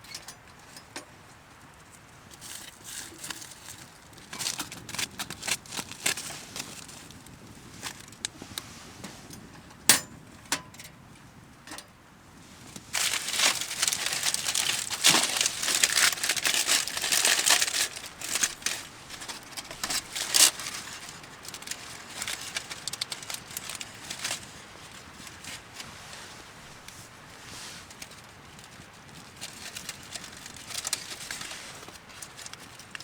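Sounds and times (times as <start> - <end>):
crinkling handling noise: 0.0 - 33.0.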